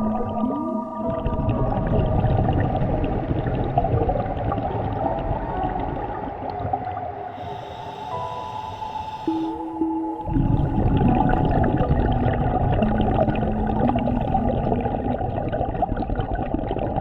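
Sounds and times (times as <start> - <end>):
faint steady musical tones: 0.0 - 16.9
underwater bubbles gurgling: 0.0 - 17.0.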